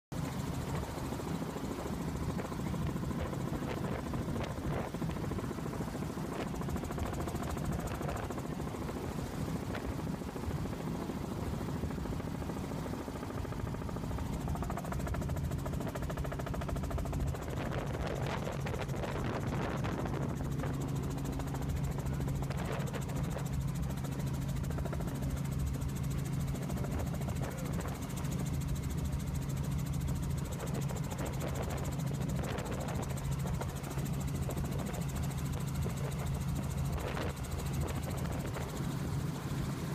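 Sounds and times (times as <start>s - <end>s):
helicopter engine and rotor noise: 0.1s - 39.9s.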